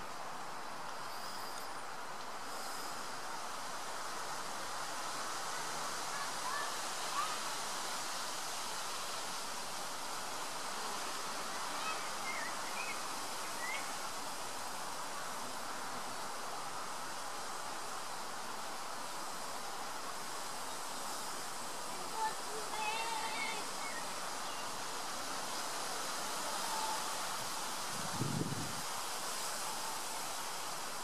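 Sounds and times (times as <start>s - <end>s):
wind rustling through grass: 0.0s - 31.0s.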